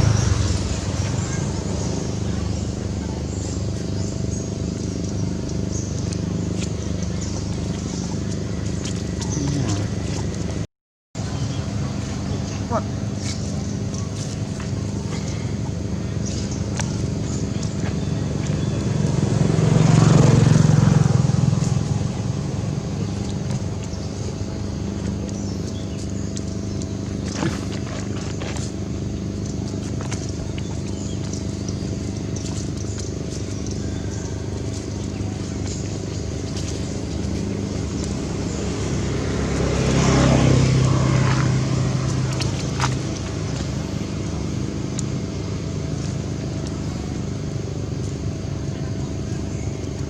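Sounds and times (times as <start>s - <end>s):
motor vehicle passing by: 0.0s - 50.0s.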